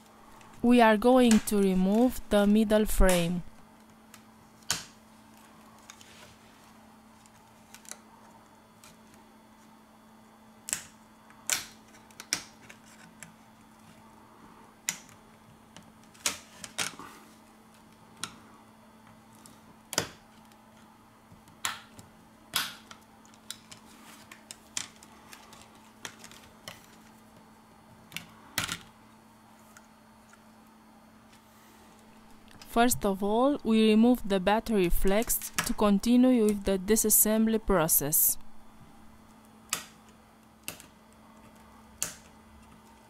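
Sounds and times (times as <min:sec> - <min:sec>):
faint low hum: 0:00.0 - 0:43.0.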